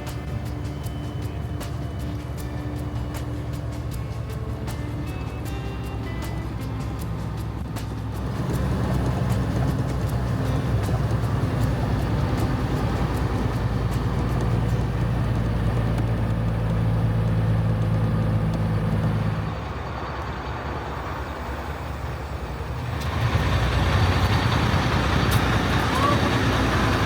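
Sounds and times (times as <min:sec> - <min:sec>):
truck engine low hum: 0:00.0 - 0:27.0.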